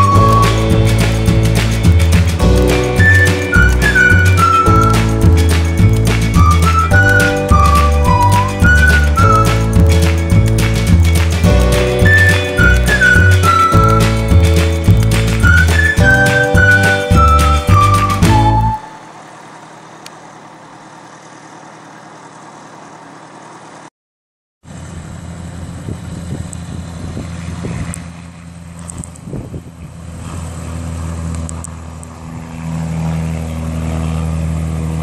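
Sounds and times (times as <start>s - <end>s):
propeller aircraft engine drone: 0.0s - 23.9s, 24.6s - 35.0s.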